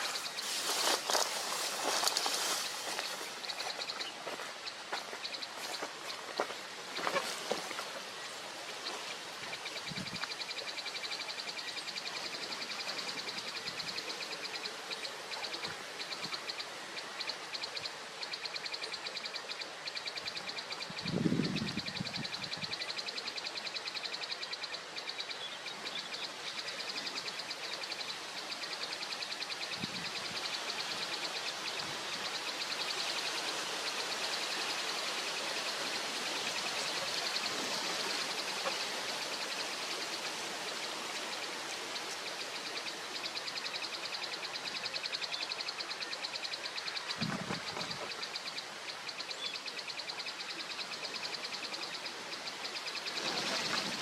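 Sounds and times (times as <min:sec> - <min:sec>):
outdoor hiss: 0:00.0 - 0:54.0.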